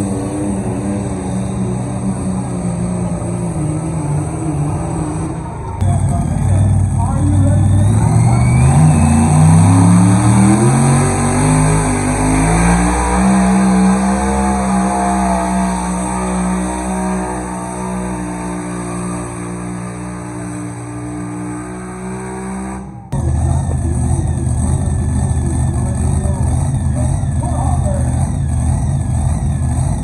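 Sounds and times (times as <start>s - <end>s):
pulling vehicle engine revving: 0.0s - 30.0s.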